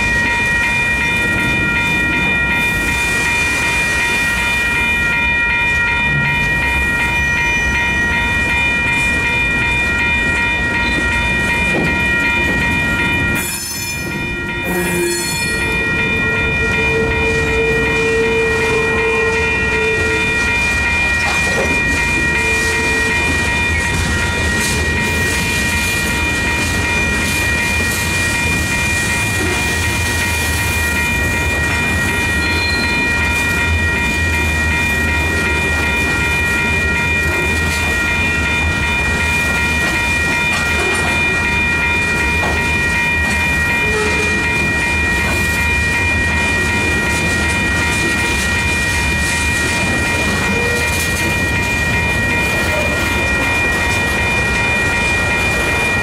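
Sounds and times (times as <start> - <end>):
freight train wheels rumbling: 0.0 - 56.0
wheels clickety-clack on rail joints: 0.0 - 56.0.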